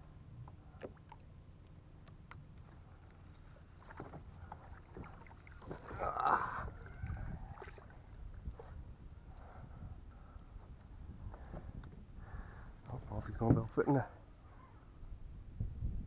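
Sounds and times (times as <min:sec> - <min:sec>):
water sloshing against a boat: 0:00.0 - 0:16.0.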